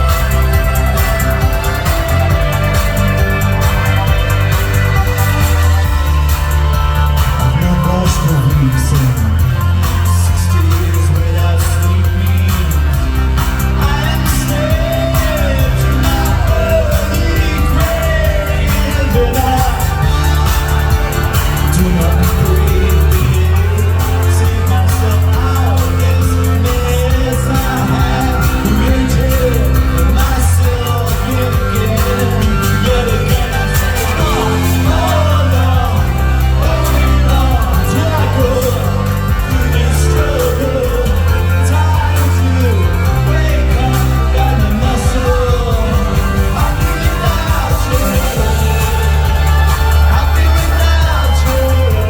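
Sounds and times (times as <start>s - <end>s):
deep bass notes: 0.0s - 52.0s.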